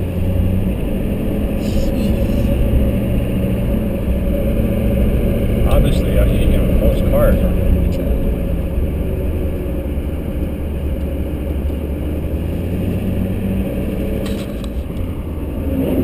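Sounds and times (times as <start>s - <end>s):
road rumble: 0.0s - 16.0s
truck engine hum: 0.0s - 16.0s.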